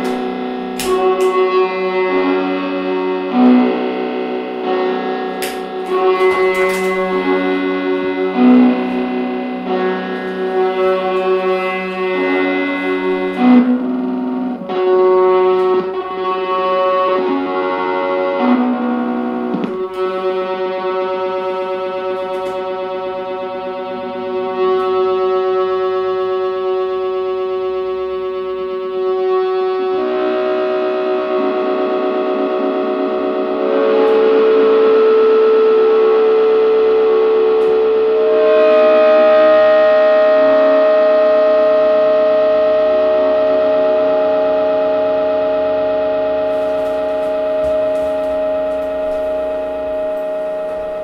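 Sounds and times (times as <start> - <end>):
looped guitar drone: 0.0 - 51.0.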